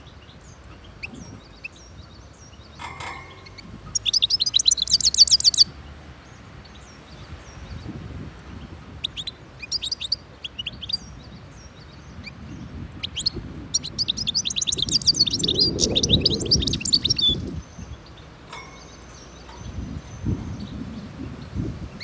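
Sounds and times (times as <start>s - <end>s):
bird twittering song: 0.0s - 22.0s.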